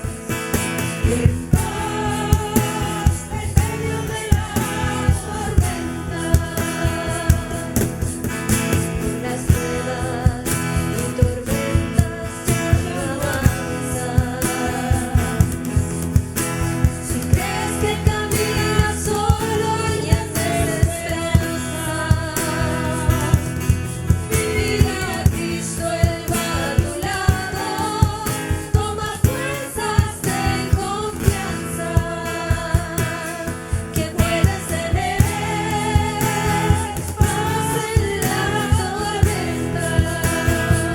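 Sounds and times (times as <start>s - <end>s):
steady drum beat: 0.0s - 40.9s
worship song with singing: 0.0s - 40.9s.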